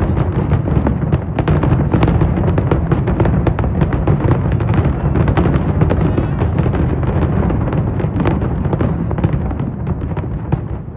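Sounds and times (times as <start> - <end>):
fireworks cracks and bangs: 0.0 - 10.9.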